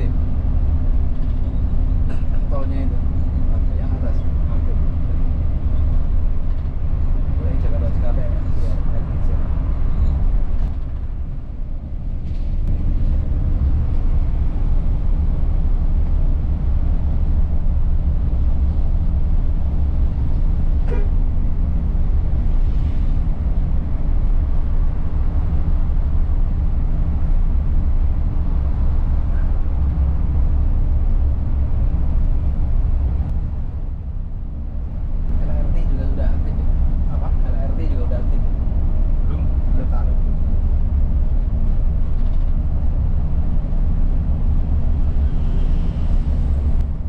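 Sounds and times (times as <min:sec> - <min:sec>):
road rumble: 0:00.0 - 0:47.0
vehicle engine hum: 0:00.0 - 0:47.0.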